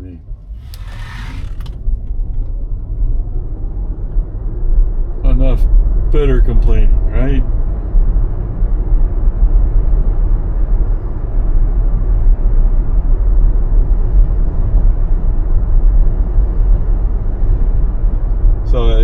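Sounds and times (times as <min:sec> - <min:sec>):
road rumble and tyre noise: 0:00.0 - 0:19.0.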